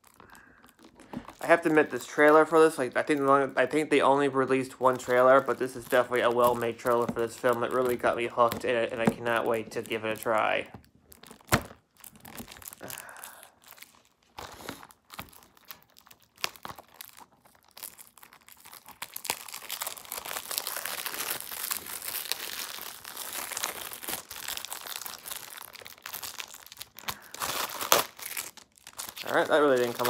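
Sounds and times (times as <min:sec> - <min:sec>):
plastic wrap crinkling and tearing: 0:00.0 - 0:30.0.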